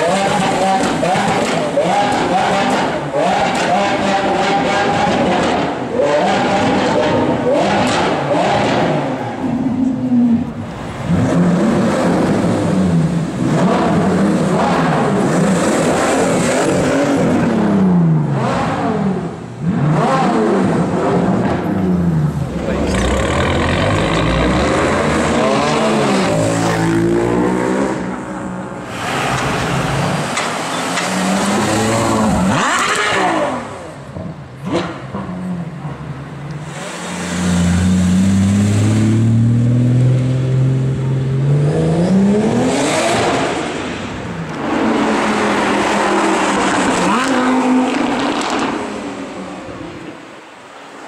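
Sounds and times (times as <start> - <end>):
car engines revving loudly: 0.0 - 51.0.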